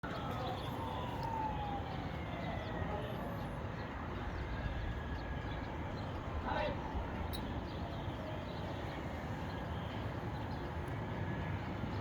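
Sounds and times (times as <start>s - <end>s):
distant siren: 0.0s - 12.0s.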